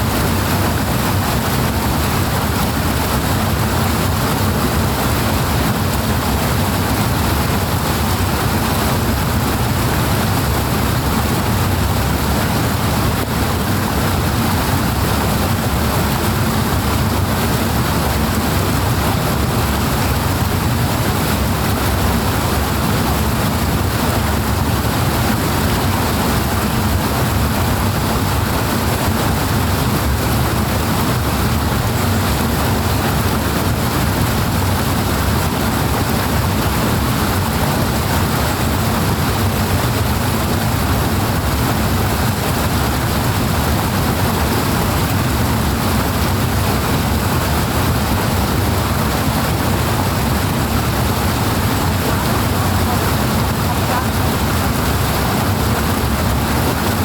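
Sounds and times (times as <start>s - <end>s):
powerful rushing water: 0.0s - 57.0s.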